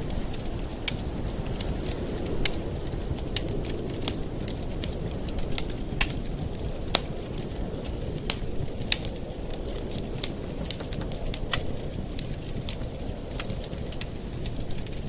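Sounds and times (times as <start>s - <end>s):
burning wood crackling and popping: 0.0s - 15.0s
campfire flame rushing: 0.0s - 15.0s.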